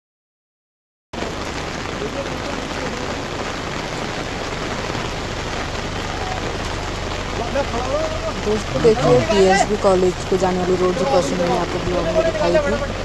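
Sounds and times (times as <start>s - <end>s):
heavy rain falling: 1.2s - 13.0s.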